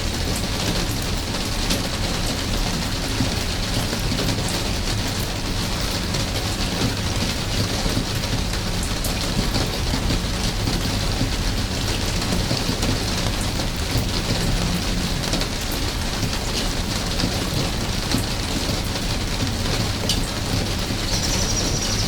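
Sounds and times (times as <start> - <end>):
rain hiss: 0.0 - 22.0
raindrops ticking: 0.0 - 22.0.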